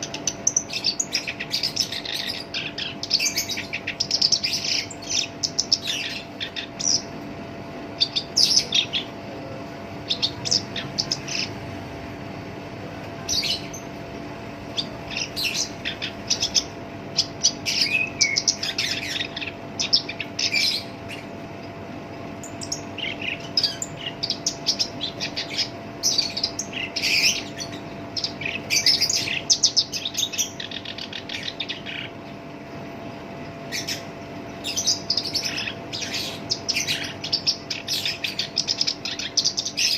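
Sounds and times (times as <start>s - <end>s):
faint steady hum: 0.0s - 39.9s
warbler singing scratchy notes: 0.0s - 39.9s.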